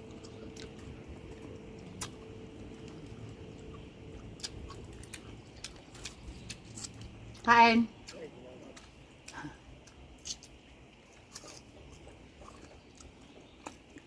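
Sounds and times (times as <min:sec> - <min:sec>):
chewing and eating smacks: 0:00.0 - 0:14.0
faint steady hum: 0:00.0 - 0:14.0
low background rumble: 0:00.0 - 0:14.0.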